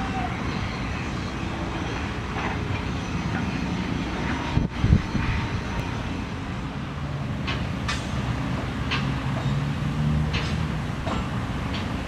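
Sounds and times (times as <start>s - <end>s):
excavator diesel engines humming: 0.0s - 12.0s.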